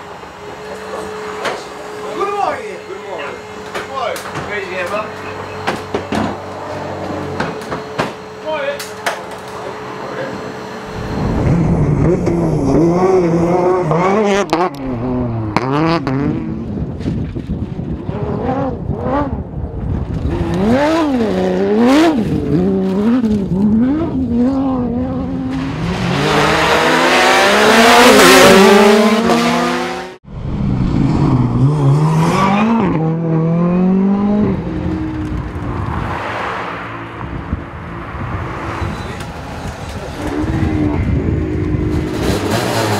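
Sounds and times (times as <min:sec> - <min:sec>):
rally car engines revving: 0:00.0 - 0:42.9
tyre noise of passing car: 0:00.0 - 0:42.9.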